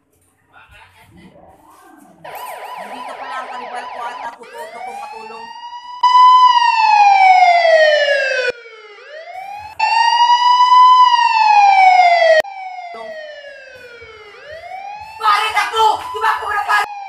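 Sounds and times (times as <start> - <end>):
electronic wail siren: 2.3 - 17.0.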